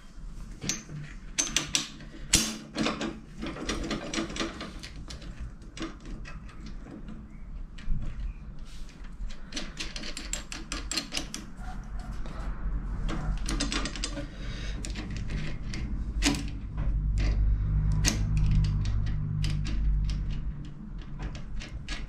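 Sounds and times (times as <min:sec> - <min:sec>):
metallic clicks and clatter: 0:00.6 - 0:12.4, 0:13.0 - 0:22.0.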